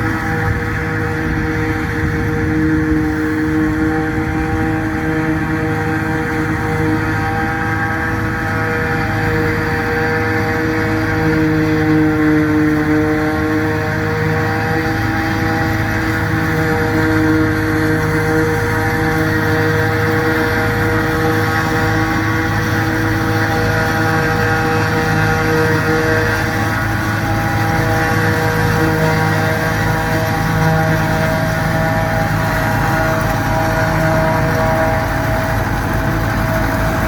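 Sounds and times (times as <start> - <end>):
harvester diesel engine running: 0.0 - 37.0.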